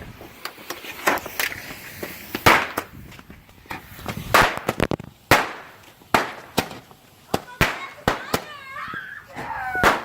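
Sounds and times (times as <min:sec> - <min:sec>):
firework hissing whoosh: 0:00.0 - 0:10.0
fireworks banging: 0:00.0 - 0:10.0.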